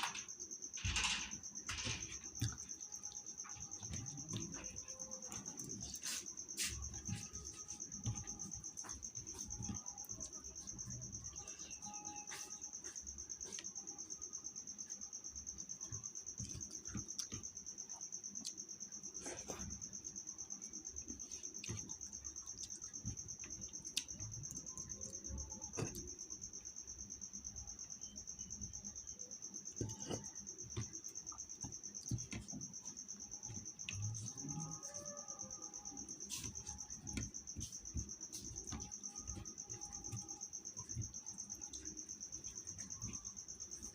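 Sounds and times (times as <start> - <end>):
high-pitched insect trill: 0.0 - 43.9.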